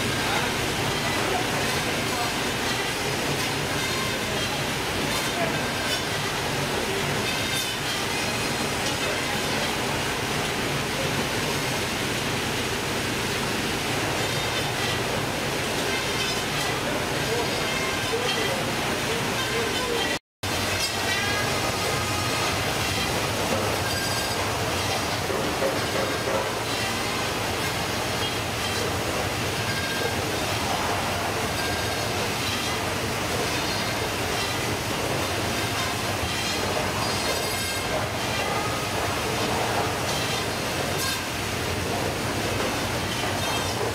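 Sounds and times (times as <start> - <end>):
constant rushing hiss: 0.0 - 43.9
conveyors and motors running: 0.0 - 43.9
fish-processing machine clatter: 0.0 - 43.9.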